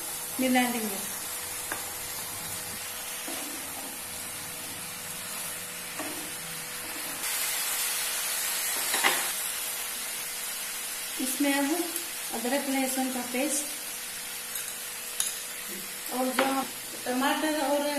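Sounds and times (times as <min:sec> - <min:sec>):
food sizzling in frying pan: 0:00.0 - 0:17.9.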